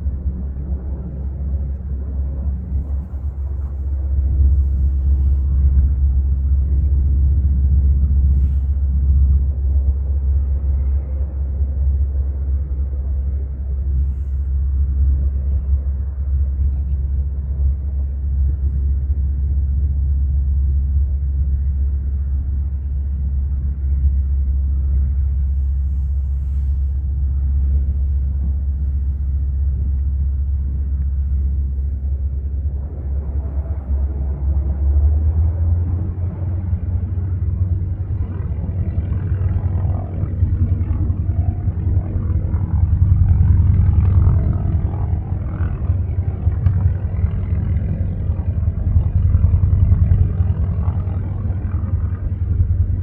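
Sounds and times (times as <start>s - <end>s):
radial engine low rumble: 0.0s - 53.0s.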